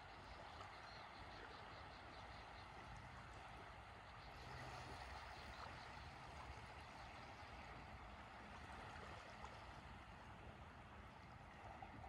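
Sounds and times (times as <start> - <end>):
small ripples lapping on shore: 0.0 - 12.0.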